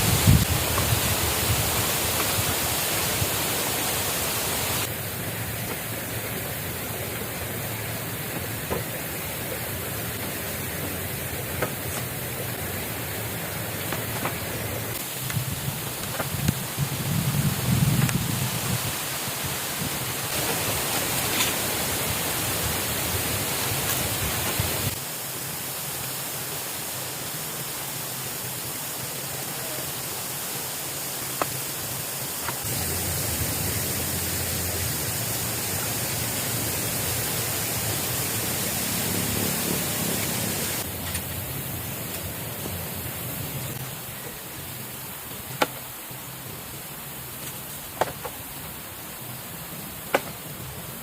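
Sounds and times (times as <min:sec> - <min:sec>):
water rushing: 0:00.0 - 0:51.0.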